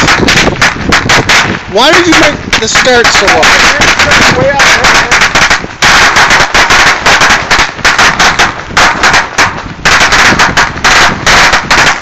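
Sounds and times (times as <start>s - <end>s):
firecrackers banging rapidly: 0.0s - 12.0s.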